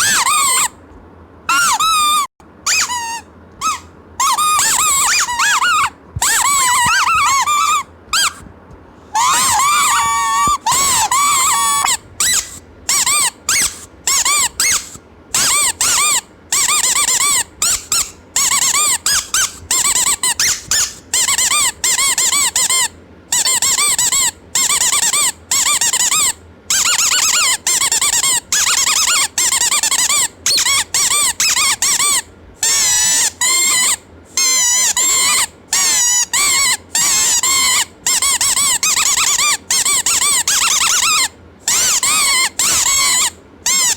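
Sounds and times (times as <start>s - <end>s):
squeaky toy squeaks: 0.0s - 0.8s, 1.5s - 8.5s, 9.1s - 43.9s.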